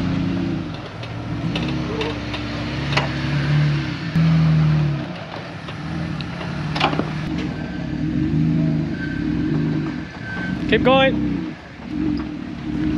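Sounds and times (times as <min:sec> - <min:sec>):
off-road engine revving: 0:00.0 - 0:12.9.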